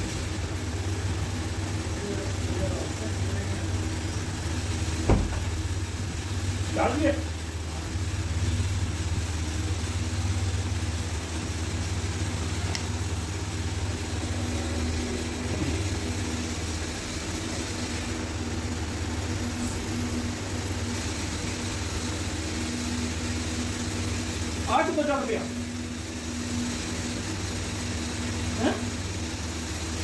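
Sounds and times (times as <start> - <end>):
motor humming steadily: 0.0 - 30.0.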